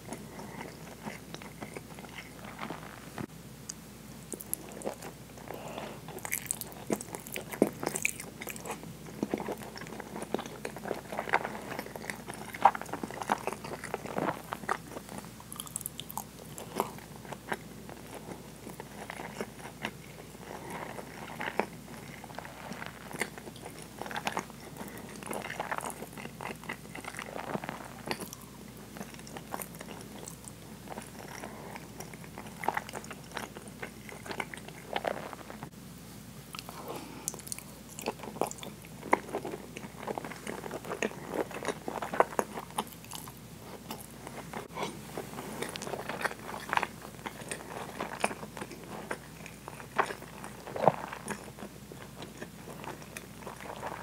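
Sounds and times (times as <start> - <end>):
person chewing with wet mouth sounds: 0.0 - 35.8, 36.5 - 54.0.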